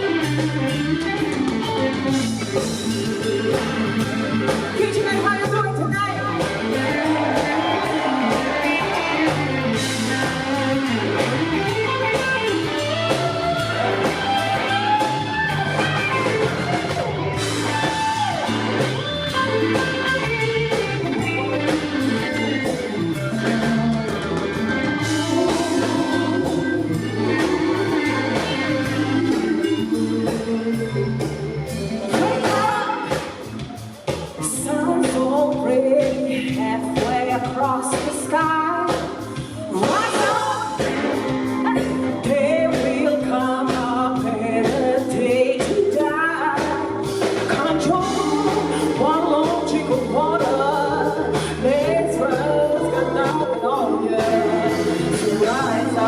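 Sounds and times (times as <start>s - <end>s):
bass guitar: 0.0s - 56.0s
drum kit steady beat: 0.0s - 56.0s
electric guitar lead: 0.0s - 56.0s.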